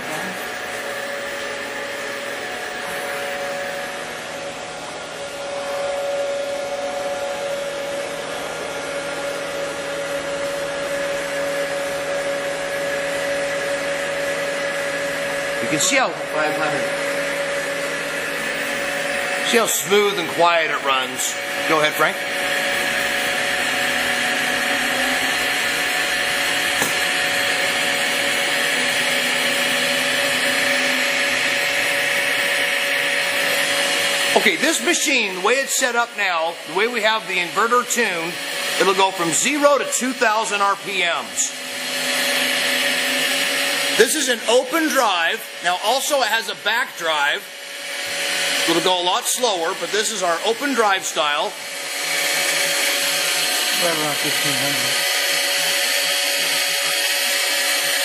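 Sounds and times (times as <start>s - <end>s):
lathe whining and humming: 0.0s - 58.0s.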